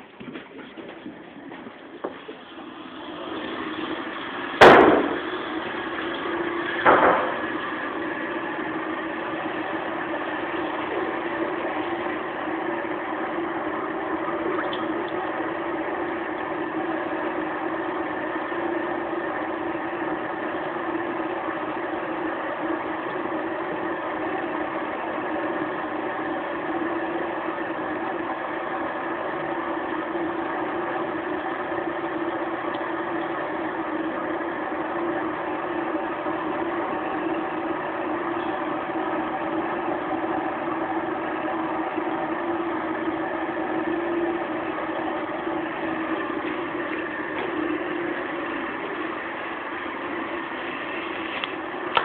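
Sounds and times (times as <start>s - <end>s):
steady machine hum: 0.0s - 52.0s.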